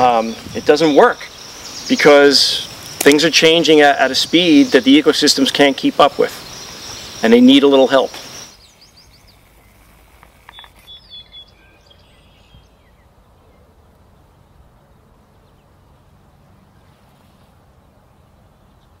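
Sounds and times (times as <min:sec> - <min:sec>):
bird chirps: 0:00.0 - 0:17.0
low background hiss: 0:00.0 - 0:19.0.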